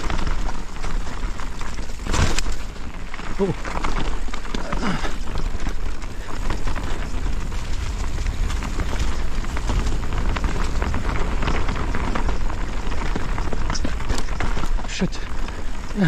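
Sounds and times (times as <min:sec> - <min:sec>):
bike clattering and rattling: 0:00.0 - 0:16.0
bike tyres on dirt and stones: 0:00.0 - 0:16.0.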